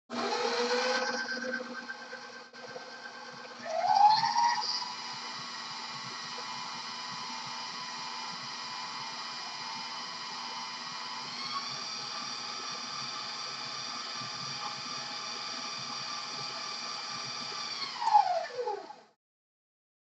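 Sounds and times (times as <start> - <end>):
stand mixer motor whine: 0.1 - 19.1.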